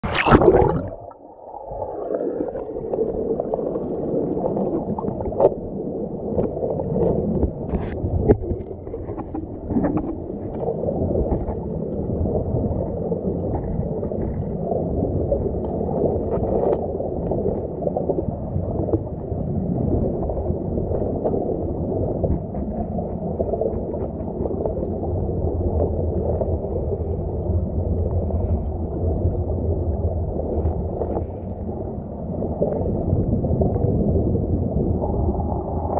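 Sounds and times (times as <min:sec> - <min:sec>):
muffled underwater stream rush: 0:00.0 - 0:35.9.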